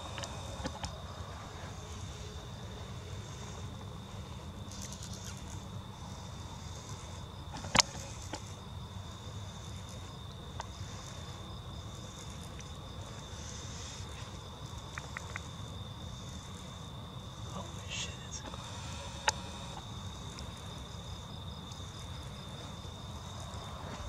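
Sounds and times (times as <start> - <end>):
faint ticks: 0.0 - 1.2, 3.4 - 17.6, 18.3 - 24.0
high insect trill: 0.0 - 24.0.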